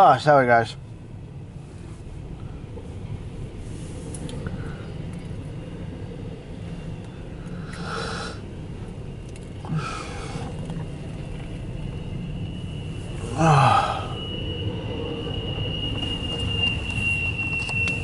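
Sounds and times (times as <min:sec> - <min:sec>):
freight train rumbling past: 0:00.0 - 0:18.0
thin high whine: 0:00.0 - 0:18.0.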